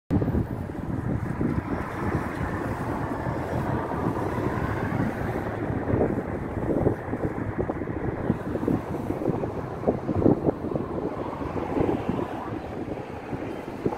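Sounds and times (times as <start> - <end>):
city road traffic: 0.1 - 13.9
wind buffeting microphone: 0.1 - 13.9.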